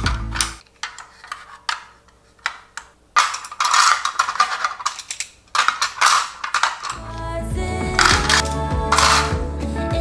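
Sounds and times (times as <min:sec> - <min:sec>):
chopsticks clattering in holder: 0:00.0 - 0:07.0, 0:08.0 - 0:09.4.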